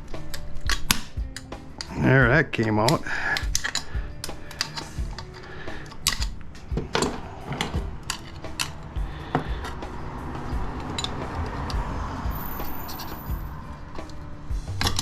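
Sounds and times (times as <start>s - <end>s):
metal parts clicking and clinking: 0.0s - 9.9s, 10.8s - 15.0s.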